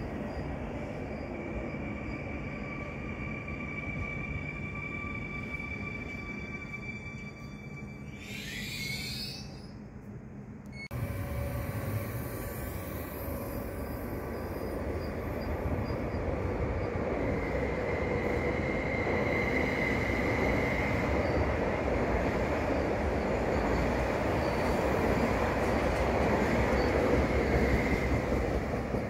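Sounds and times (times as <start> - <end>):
steady high train whine: 0.0 - 29.0.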